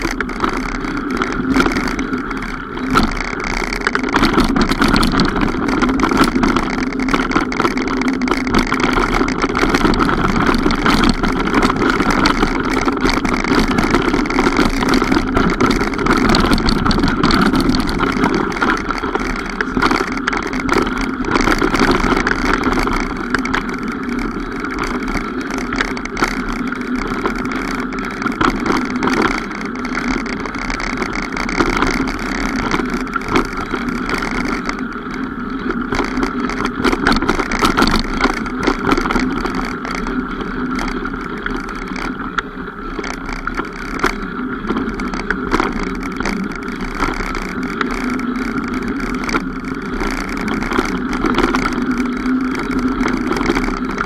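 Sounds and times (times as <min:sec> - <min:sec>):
bike clicks and knocks: 0:00.0 - 0:54.0
mountain bike riding noise: 0:00.0 - 0:54.0.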